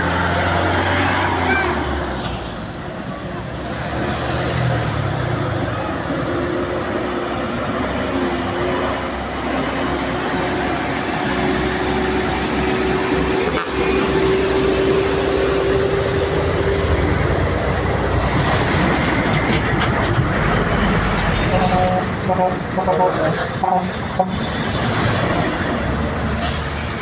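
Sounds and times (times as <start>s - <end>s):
heavy truck engine running: 0.0s - 27.0s.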